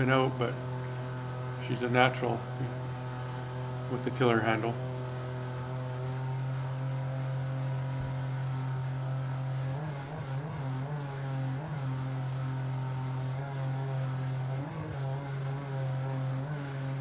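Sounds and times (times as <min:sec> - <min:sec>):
jet boat motor running: 0:00.0 - 0:17.0.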